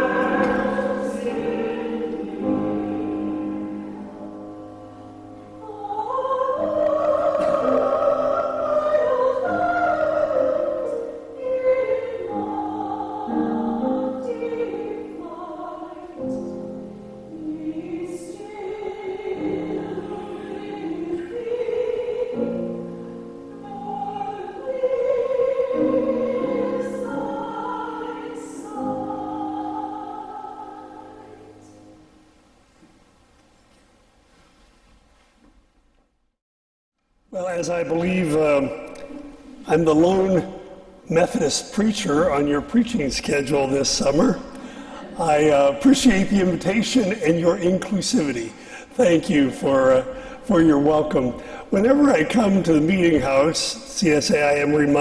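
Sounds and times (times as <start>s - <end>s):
vocal quartet singing in harmony: 0.0s - 32.2s, 38.4s - 55.0s.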